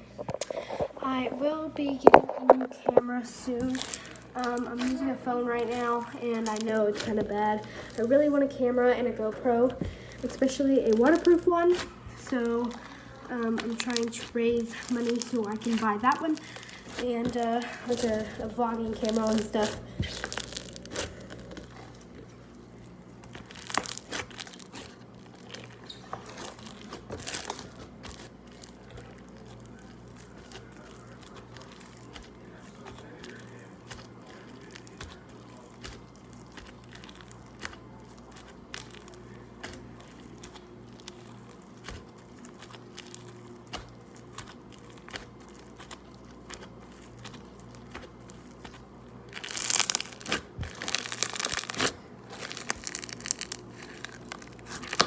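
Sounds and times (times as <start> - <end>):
slime squished by hand: 0.3 - 8.4, 9.2 - 55.0.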